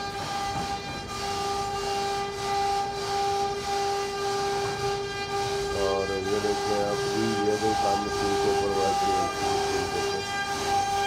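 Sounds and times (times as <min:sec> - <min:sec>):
machine high whine: 0:00.0 - 0:11.0.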